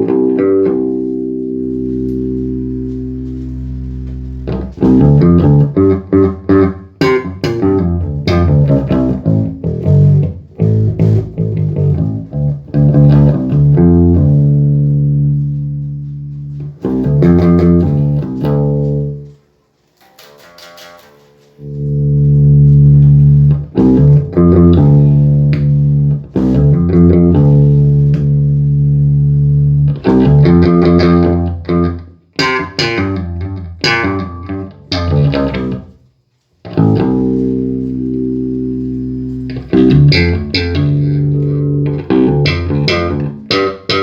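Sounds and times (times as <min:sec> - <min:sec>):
bass guitar notes: 0:00.0 - 0:19.4, 0:21.6 - 0:44.0.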